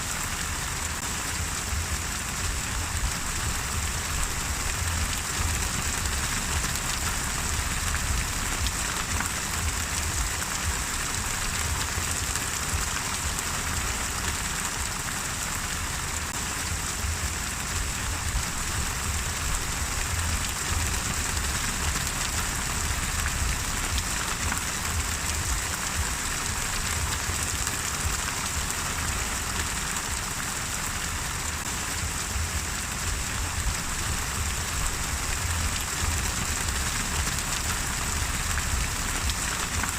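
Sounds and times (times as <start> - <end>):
rain falling on a surface: 0.0 - 39.9
low rumble: 1.4 - 13.9, 16.6 - 28.7, 31.9 - 39.9.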